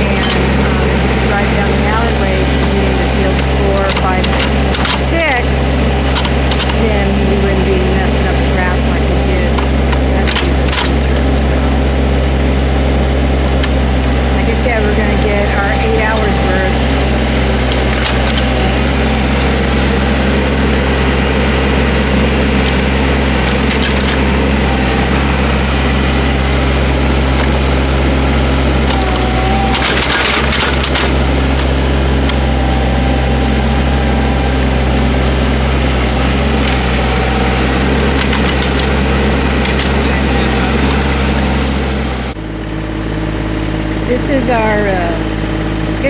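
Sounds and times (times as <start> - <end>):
excavator engine running: 0.0 - 46.0.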